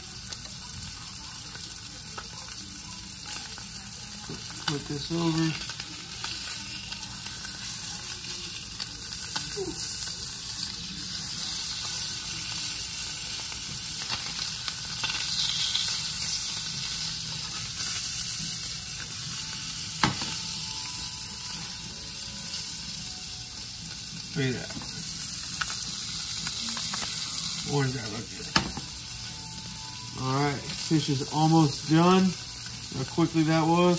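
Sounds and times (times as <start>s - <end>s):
fish sizzling in a pan: 0.0s - 33.9s.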